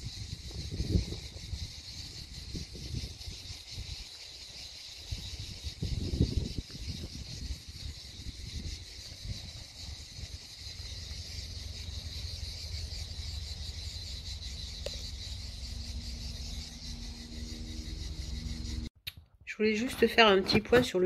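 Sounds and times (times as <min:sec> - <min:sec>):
insects chirring: 0:00.0 - 0:18.9.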